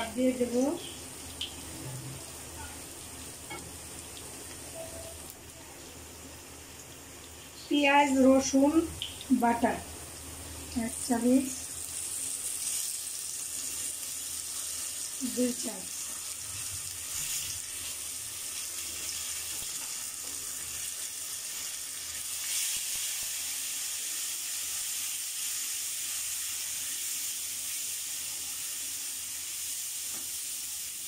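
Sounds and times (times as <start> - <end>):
onions and spices sizzling in oil: 0.0 - 31.0.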